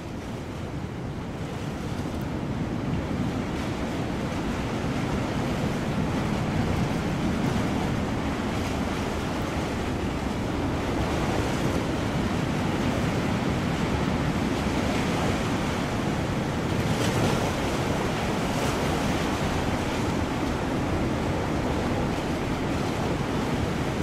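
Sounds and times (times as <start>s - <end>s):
waves breaking: 0.0s - 24.0s
wind: 0.0s - 24.0s.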